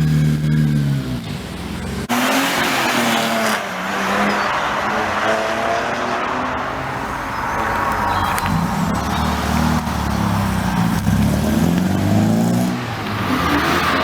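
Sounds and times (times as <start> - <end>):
car engine accelerating hard: 0.0 - 14.0
loud rush of exhaust: 0.0 - 14.0.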